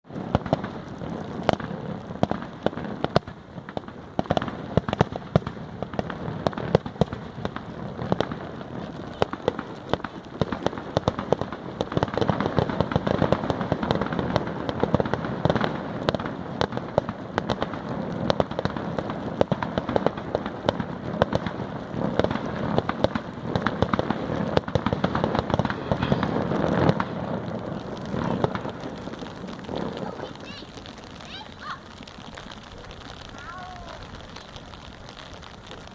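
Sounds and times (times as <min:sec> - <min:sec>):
fireworks bangs and crackling: 0:00.0 - 0:35.9.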